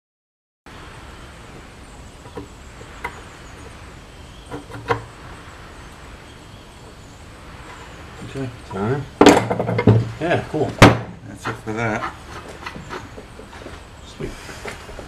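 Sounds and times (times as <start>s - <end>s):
steady workshop hiss: 0.7s - 15.0s.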